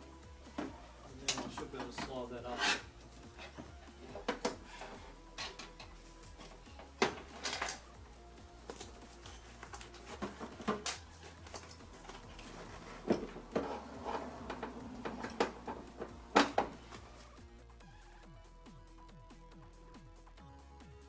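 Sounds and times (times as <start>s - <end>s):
faint background music: 0.0s - 21.0s
metal parts knocking and rattling: 0.1s - 17.2s.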